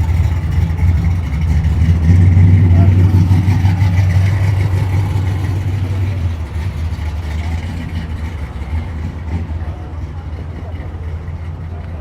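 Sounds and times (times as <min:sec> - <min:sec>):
car engine and exhaust rumbling: 0:00.0 - 0:12.0.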